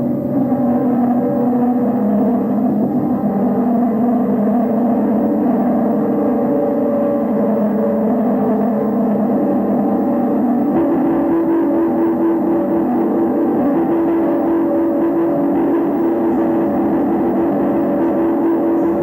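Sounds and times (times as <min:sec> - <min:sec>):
noise music drone: 0:00.0 - 0:19.0.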